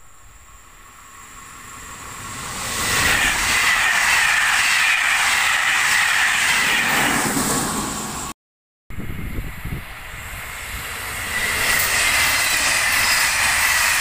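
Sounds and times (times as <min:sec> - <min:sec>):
train rushing and rumbling past: 0:00.0 - 0:14.0.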